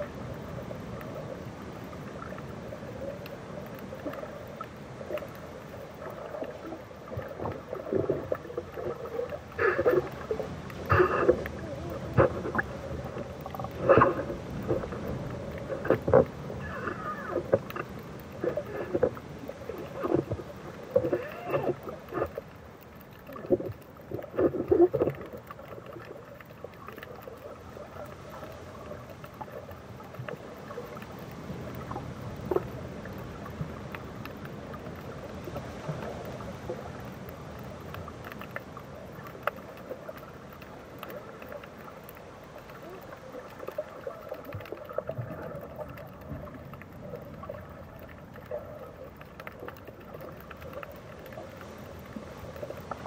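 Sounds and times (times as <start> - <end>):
muffled underwater sloshing: 0.0 - 53.0
underwater rush: 0.0 - 53.0.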